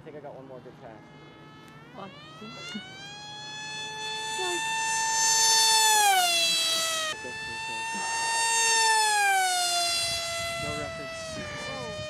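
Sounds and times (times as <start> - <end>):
model jet motor whining: 0.0 - 12.0.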